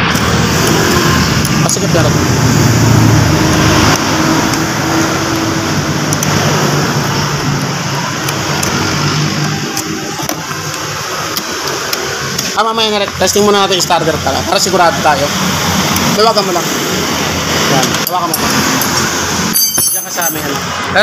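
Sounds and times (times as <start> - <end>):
vehicle engine running: 0.0 - 19.6
traffic noise: 0.0 - 21.0.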